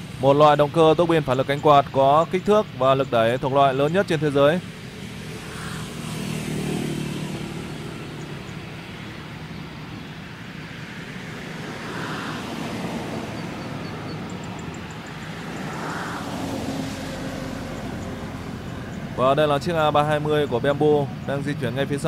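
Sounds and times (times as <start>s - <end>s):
jet engines rumbling at taxi: 0.0s - 22.0s.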